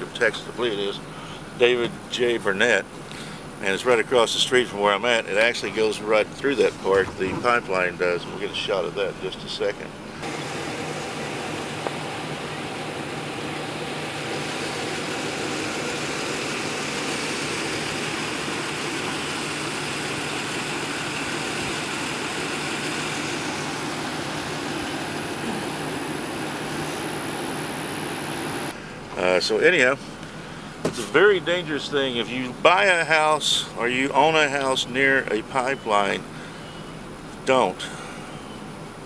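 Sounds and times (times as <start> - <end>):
vehicle engine humming: 0.0 - 39.0.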